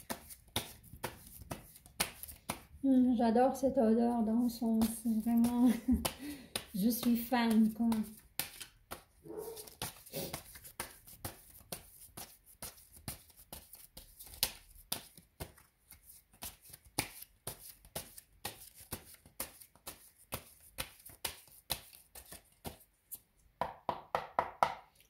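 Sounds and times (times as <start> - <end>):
cards being shuffled: 0.0 - 2.7, 4.8 - 23.3.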